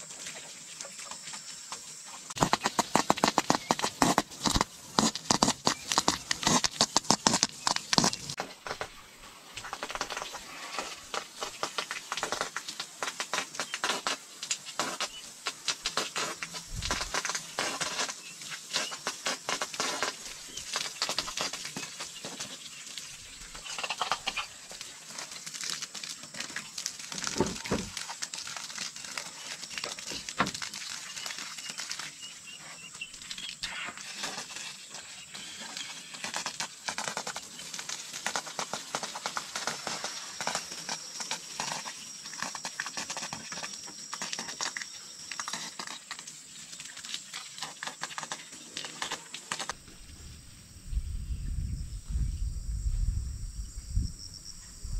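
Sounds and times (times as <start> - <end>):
hose water spattering on wood: 0.0 - 49.8.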